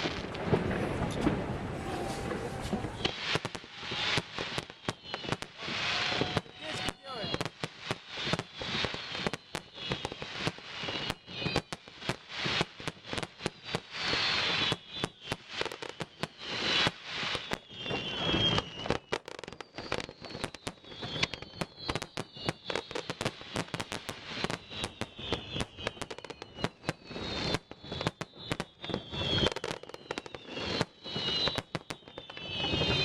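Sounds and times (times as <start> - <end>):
fireworks crackling: 0.0 - 33.0
high falling whistles: 1.8 - 11.8, 13.6 - 23.8, 24.4 - 33.0.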